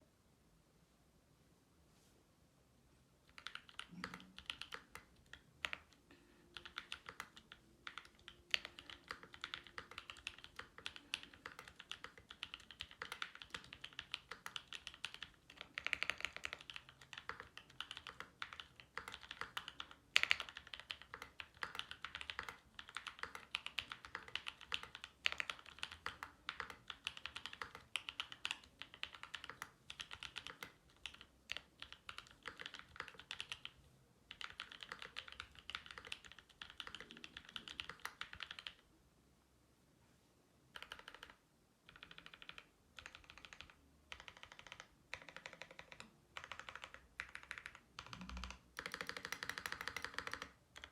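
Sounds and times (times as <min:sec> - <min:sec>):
mechanical keyboard typing: 0:03.2 - 0:38.8, 0:40.7 - 0:50.9.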